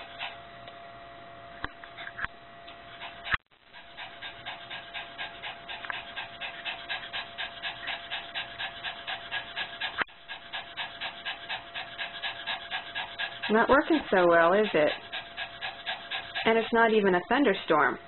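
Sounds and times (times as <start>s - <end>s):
small dog panting rapidly: 0.0s - 0.4s, 2.0s - 18.0s.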